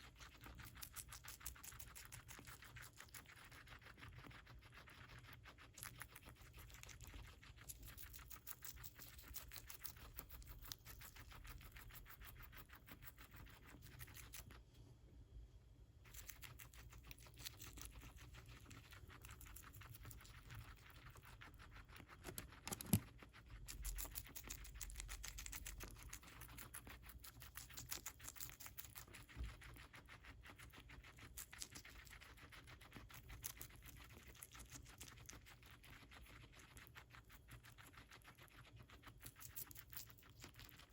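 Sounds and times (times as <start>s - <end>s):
guinea pig chewing lettuce: 0.0s - 14.8s, 16.0s - 40.9s.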